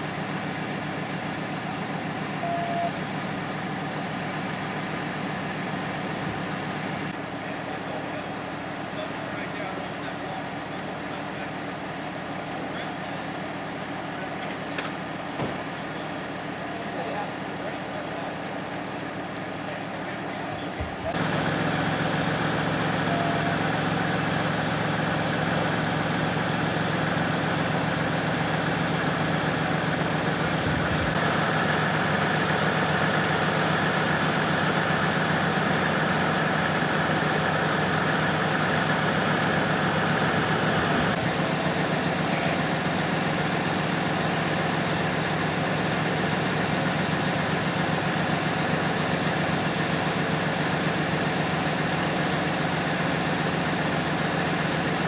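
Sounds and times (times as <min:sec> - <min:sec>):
vehicle engine idling: 0:00.1 - 0:55.0.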